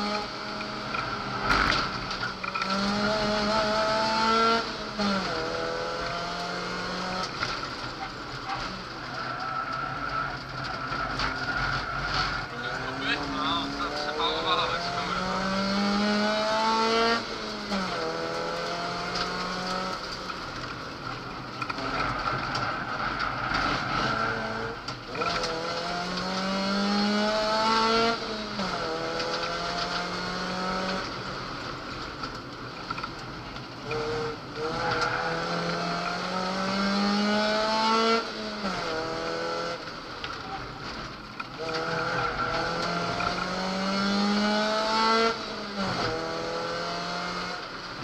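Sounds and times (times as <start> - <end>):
car engine under full throttle: 0.0 - 48.0.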